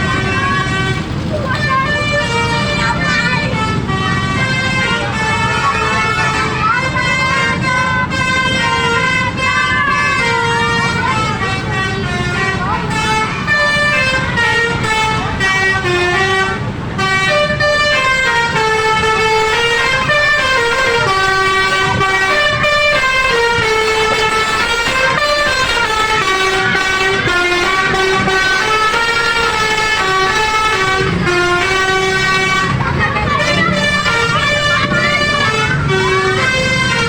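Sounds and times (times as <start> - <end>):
low engine rumble: 0.0 - 37.0
musical air horns playing melody: 0.0 - 37.0.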